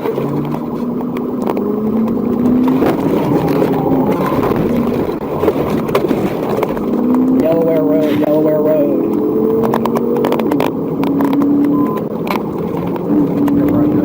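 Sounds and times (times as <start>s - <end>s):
car engine accelerating hard: 0.0s - 14.0s
road and wind noise: 0.0s - 14.0s.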